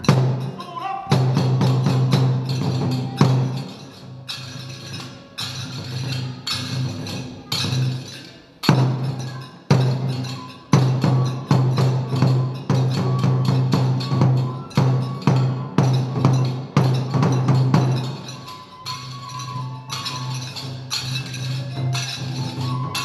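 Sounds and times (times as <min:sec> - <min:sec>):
hand cymbals clashing: 0:00.0 - 0:23.0
taiko drum strokes: 0:00.0 - 0:23.0.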